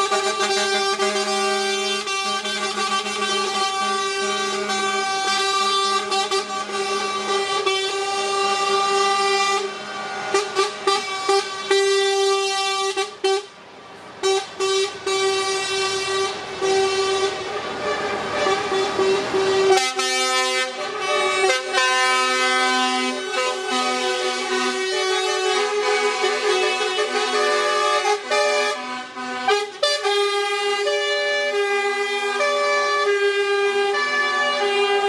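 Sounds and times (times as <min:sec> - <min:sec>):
lower-pitched horn: 0:00.0 - 0:13.5, 0:14.2 - 0:35.0
lorry air horns blasting: 0:00.0 - 0:35.0.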